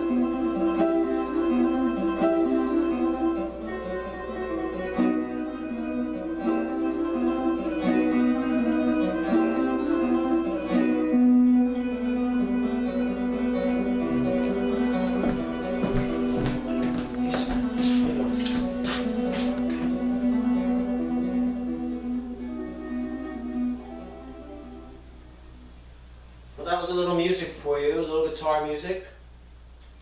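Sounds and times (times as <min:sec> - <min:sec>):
acoustic guitar plucked notes: 0:00.0 - 0:25.9.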